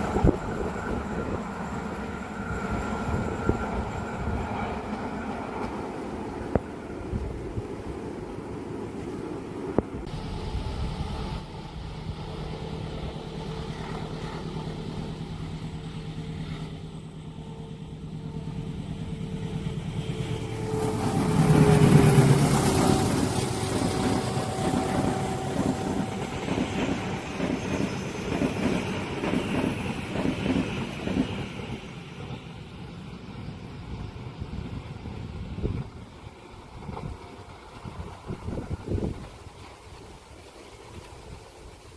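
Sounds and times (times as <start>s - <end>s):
diesel locomotive engine drone: 0.0s - 41.9s.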